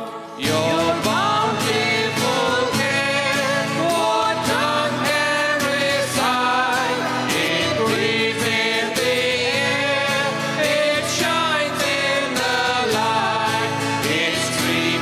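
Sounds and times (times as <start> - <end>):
congregation singing: 0.0 - 15.0
guitar: 0.0 - 15.0
keyboard: 0.0 - 15.0.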